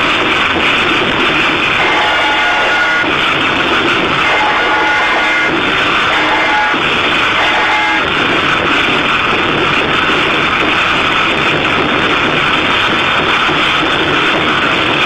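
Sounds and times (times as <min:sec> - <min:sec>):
large drums beaten in fast roll: 0:00.0 - 0:15.0.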